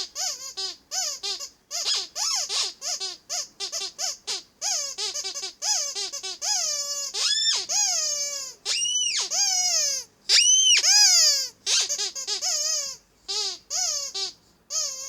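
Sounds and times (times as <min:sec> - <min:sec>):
rubber toy duck squeaks: 0:00.0 - 0:15.0.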